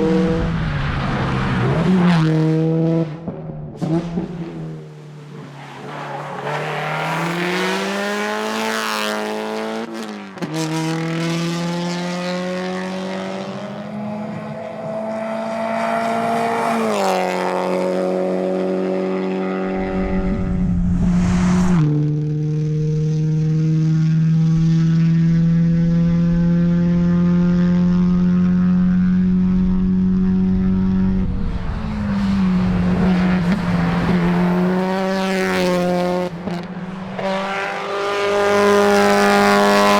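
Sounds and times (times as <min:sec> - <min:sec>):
car engine revving hard: 0:06.1 - 0:39.9.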